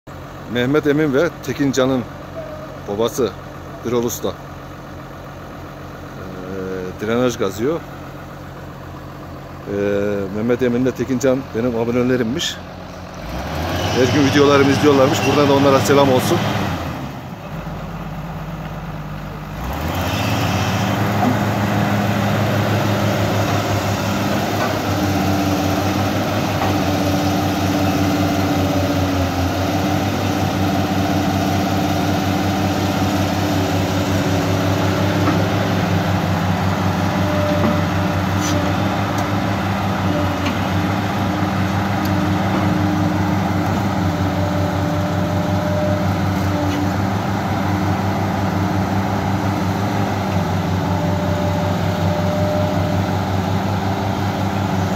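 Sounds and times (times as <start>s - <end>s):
excavator diesel engine: 0.1s - 54.9s.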